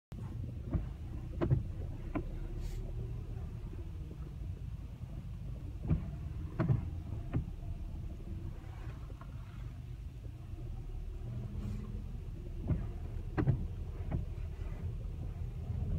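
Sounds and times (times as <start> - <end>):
car tyres and engine rumble: 0.1 - 15.9.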